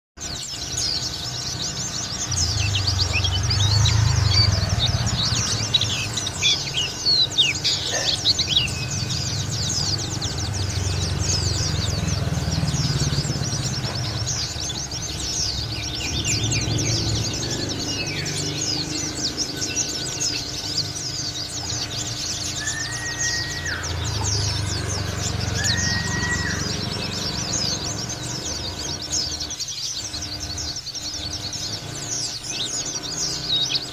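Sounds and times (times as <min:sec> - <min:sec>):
bird chirping and twittering: 0:00.2 - 0:33.9.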